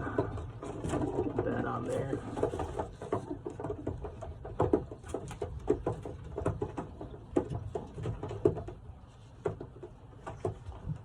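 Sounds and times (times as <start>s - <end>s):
pigeons tapping and scuffling: 0.0s - 11.0s.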